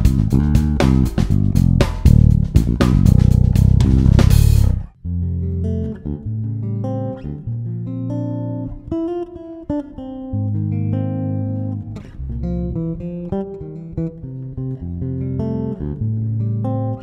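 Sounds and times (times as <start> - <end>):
electric bass playing: 0.0 - 17.0.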